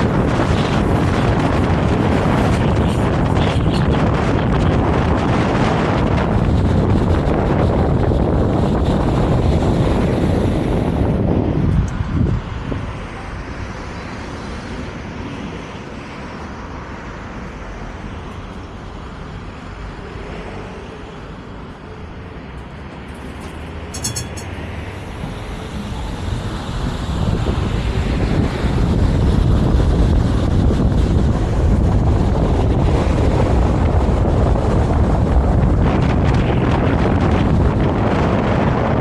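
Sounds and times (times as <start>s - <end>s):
wind on microphone: 0.0s - 17.4s, 18.0s - 39.0s
tram wheels rumbling on rails: 0.0s - 39.0s.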